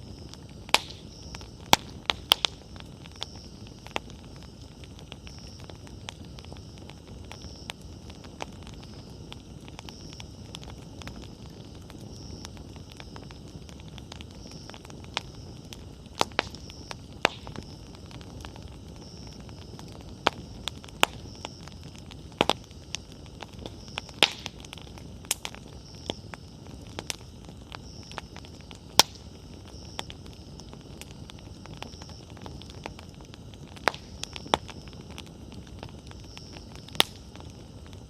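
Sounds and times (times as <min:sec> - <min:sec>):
firewood crackling and popping: 0:00.0 - 0:38.0
low rush of flames: 0:00.0 - 0:38.0.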